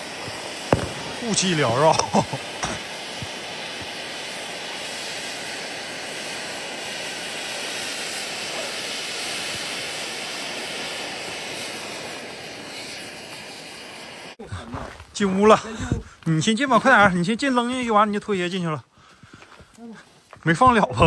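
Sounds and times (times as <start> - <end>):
ground firework hissing: 0.0 - 18.6, 19.7 - 20.4.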